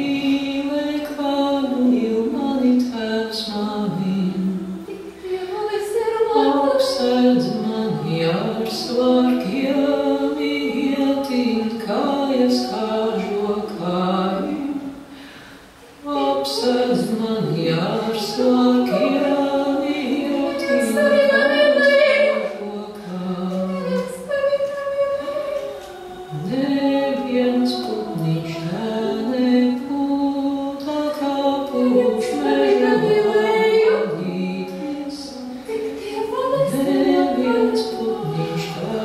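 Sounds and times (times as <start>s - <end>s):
person singing unaccompanied: 0.0s - 39.0s.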